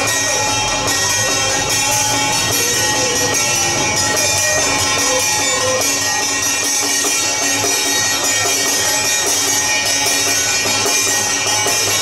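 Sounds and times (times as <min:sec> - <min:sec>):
drums and clashing percussion: 0:00.0 - 0:12.0.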